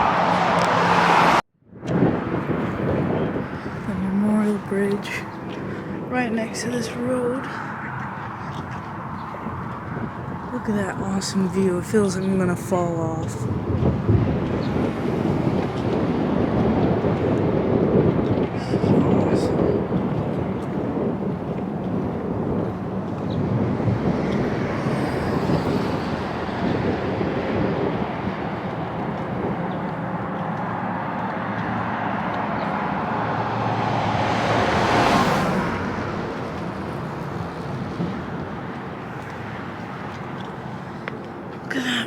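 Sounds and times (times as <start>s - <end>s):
bus engine and road noise: 0.0s - 42.0s.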